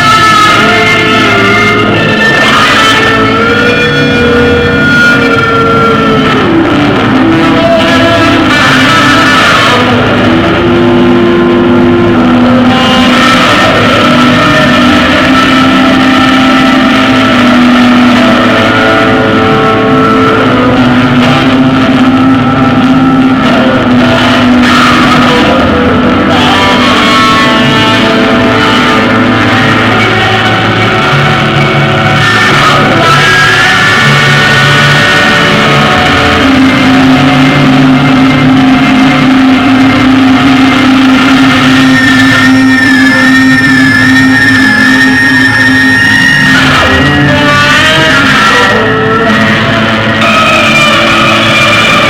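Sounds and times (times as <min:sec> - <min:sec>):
electric guitar bending notes: 0:00.0 - 0:52.0
loud rock music: 0:00.0 - 0:52.0.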